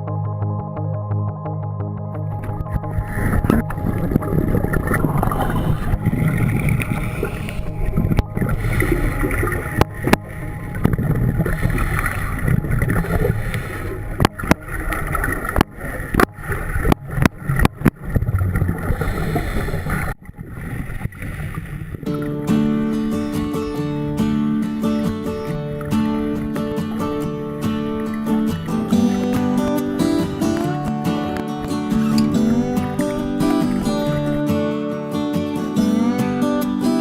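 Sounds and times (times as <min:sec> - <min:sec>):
boat engine rumble: 0:00.0 - 0:37.0.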